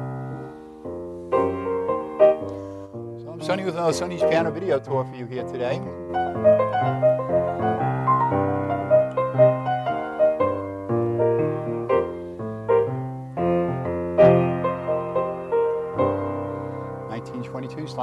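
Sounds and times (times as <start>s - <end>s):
grand piano playing: 0.0s - 18.0s.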